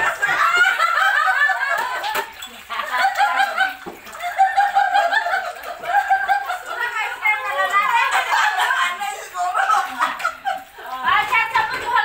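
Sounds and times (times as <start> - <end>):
people laughing and chatting: 0.0 - 12.0.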